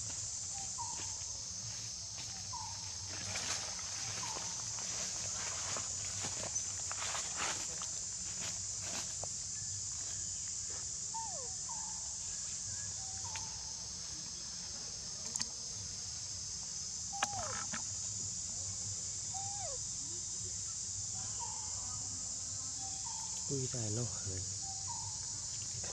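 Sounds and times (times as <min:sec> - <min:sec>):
insects droning: 0:00.0 - 0:25.9.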